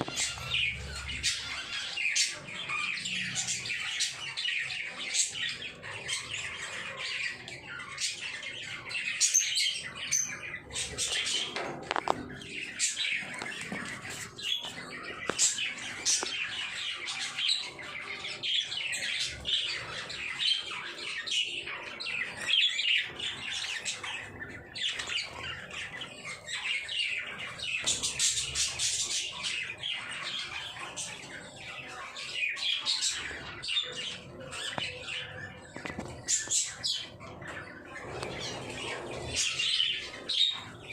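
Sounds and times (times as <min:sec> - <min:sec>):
lovebirds chirping: 0:00.0 - 0:40.9.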